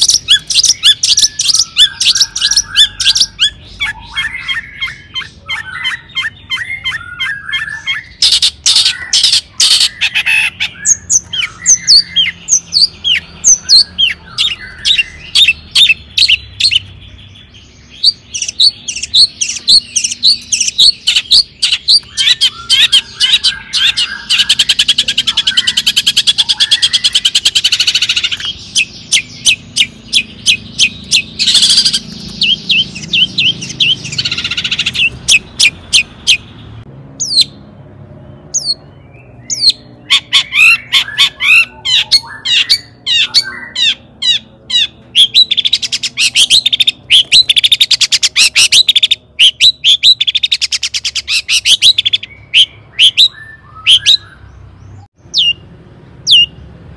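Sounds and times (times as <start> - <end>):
bird chattering and trilling: 0.0 - 56.7.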